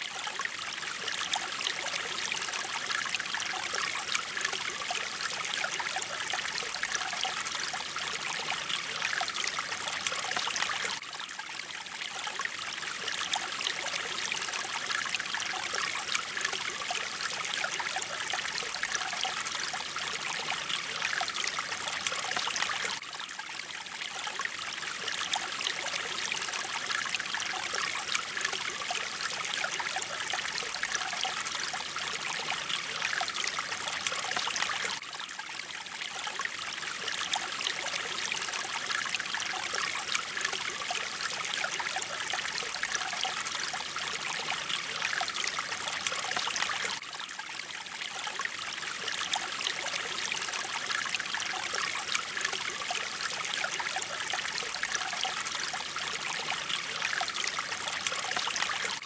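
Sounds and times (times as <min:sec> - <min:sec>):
mountain stream flowing: 0:00.0 - 0:59.0.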